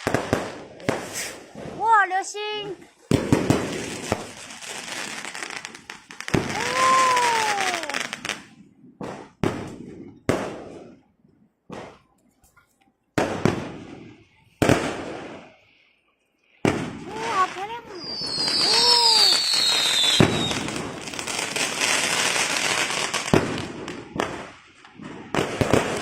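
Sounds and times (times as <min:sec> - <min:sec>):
fireworks crackling hiss: 0:00.0 - 0:11.1, 0:13.2 - 0:26.0
fireworks booming: 0:00.0 - 0:12.1, 0:13.2 - 0:15.6, 0:16.6 - 0:26.0.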